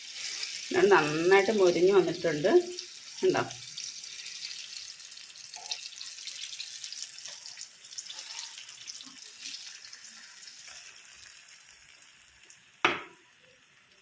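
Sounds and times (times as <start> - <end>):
fruit deep-frying in oil: 0.0 - 14.0.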